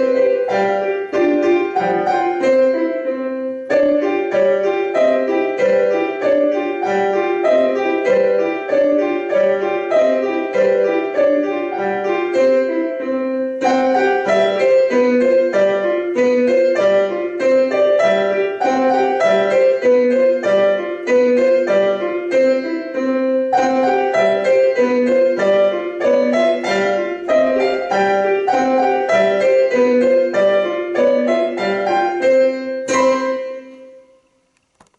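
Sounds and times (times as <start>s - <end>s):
piano duet: 0.0s - 34.9s.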